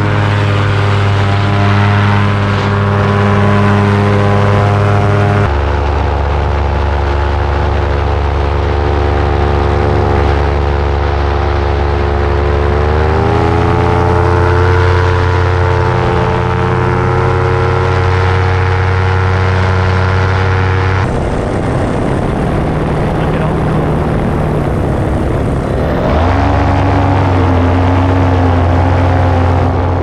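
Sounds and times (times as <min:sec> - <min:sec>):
paramotor engine droning: 0:00.0 - 0:30.0.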